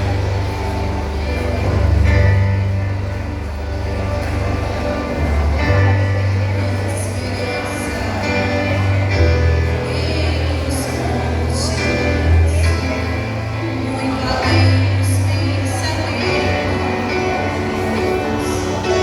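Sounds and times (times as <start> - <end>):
live band playing gospel: 0.0 - 19.0.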